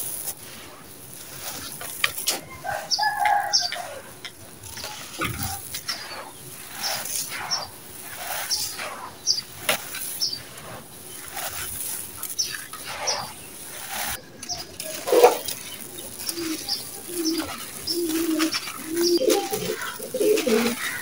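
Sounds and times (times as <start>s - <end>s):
gritty sand crunching through hands: 0.0s - 21.0s
birds chirping: 1.8s - 21.0s.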